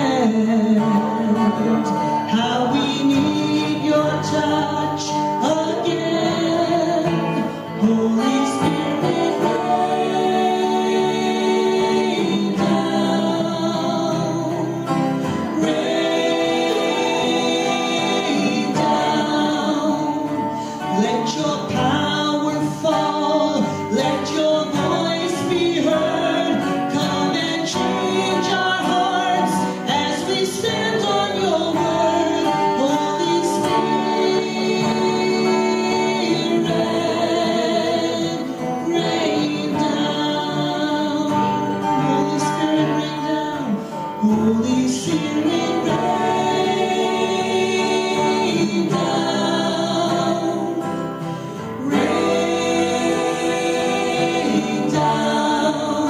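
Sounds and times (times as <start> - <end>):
amplified musical backing: 0.0 - 56.0.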